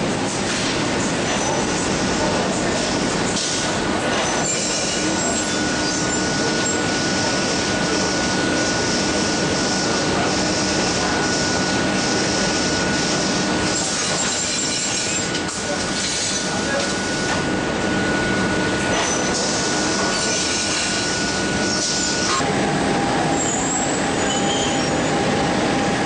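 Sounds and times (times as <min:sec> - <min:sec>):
laundry machinery din: 0:00.0 - 0:26.0
high-pitched whine: 0:04.4 - 0:26.0.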